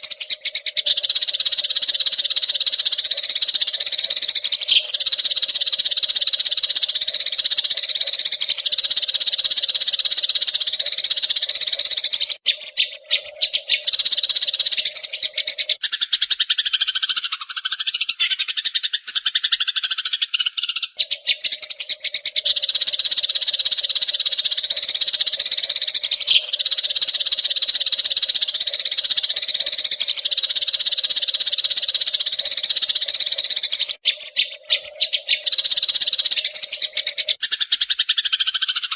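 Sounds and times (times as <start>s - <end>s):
sparrows chattering: 0.0s - 38.9s.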